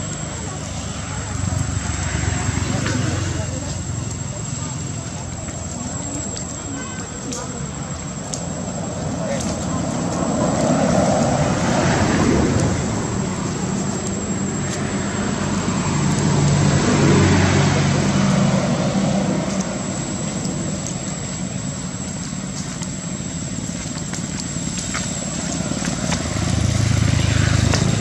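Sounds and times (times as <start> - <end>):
vehicle engine passing: 0.0 - 6.5, 7.3 - 22.0, 23.6 - 28.0
steady road noise: 0.0 - 28.0.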